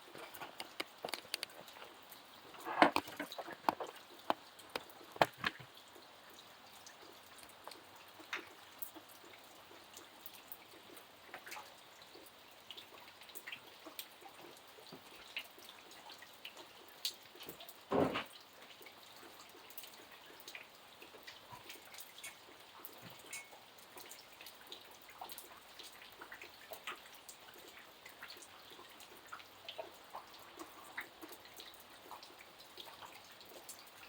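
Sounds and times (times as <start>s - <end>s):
faint steady hiss: 0.0s - 34.0s
rain drops dripping: 0.0s - 34.0s.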